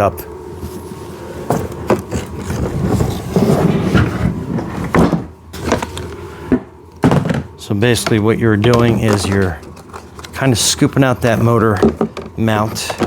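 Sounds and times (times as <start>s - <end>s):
rustling and scraping: 0.6s - 7.5s, 8.7s - 13.0s.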